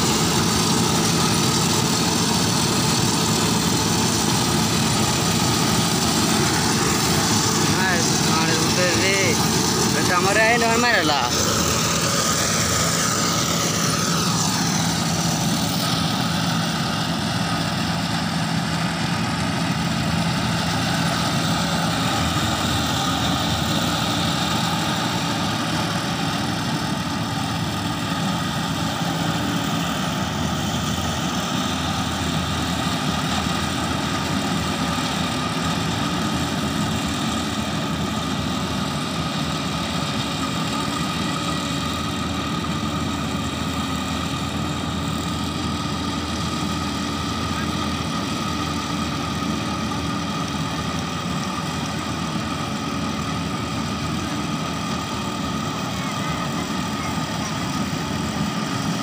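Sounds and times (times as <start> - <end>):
harvester engine drone: 0.0 - 59.0.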